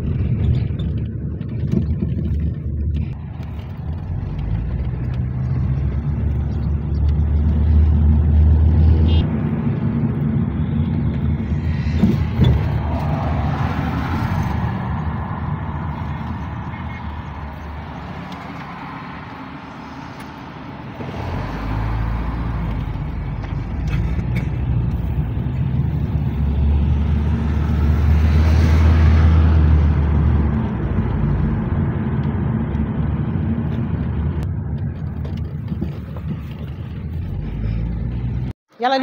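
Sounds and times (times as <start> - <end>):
car engine and road noise: 0.0 - 39.0.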